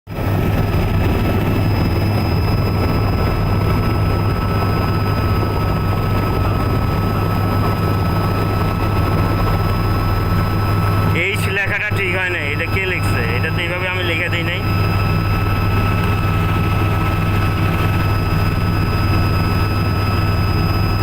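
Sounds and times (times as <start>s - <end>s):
helicopter rotor and engine drone: 0.1s - 21.0s
high-pitched turbine whine: 0.1s - 21.0s.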